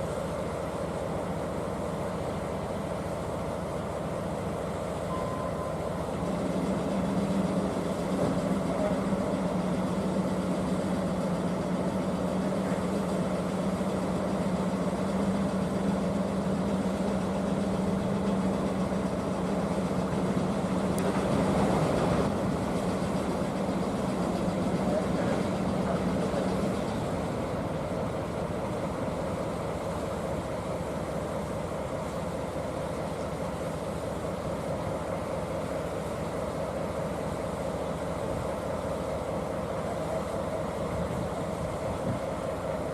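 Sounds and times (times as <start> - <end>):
locomotive engine droning: 0.0 - 42.9.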